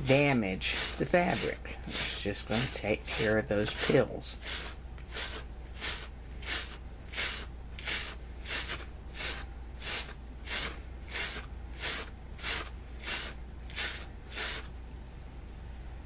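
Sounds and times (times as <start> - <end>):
brush scratching fabric: 0.0 - 14.7.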